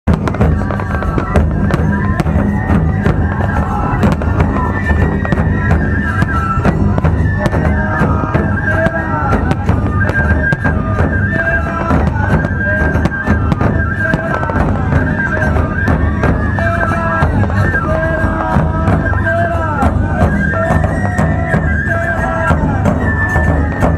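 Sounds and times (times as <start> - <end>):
flutes playing a melody: 0.1 - 23.9
pounding taiko drums: 0.1 - 23.9.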